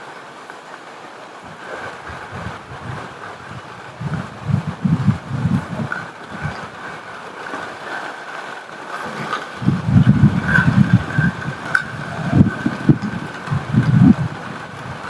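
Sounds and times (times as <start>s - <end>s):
rain hiss: 0.0s - 15.0s
wind gusts rumbling: 1.4s - 15.0s.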